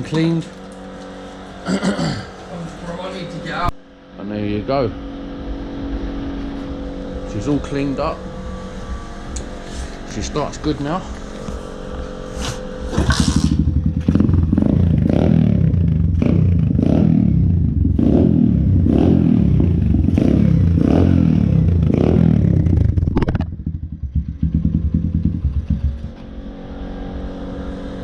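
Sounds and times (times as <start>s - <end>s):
pit bike engine revving: 0.0s - 28.0s.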